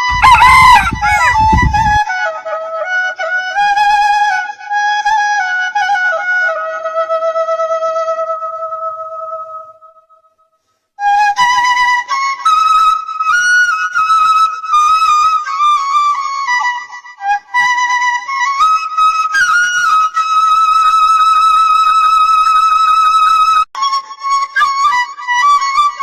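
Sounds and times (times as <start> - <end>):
flute melody: 0.0 - 10.0, 11.0 - 26.0.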